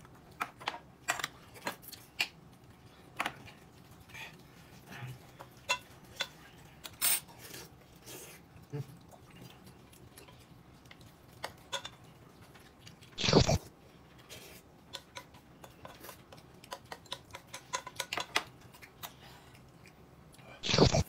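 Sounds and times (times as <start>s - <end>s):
person chewing: 1.8s - 21.0s.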